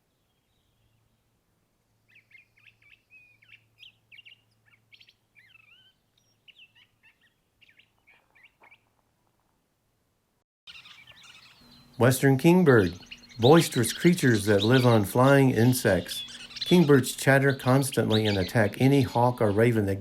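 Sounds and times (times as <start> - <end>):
faint bird chirps: 0.0 - 1.3, 1.9 - 9.4, 10.7 - 20.0.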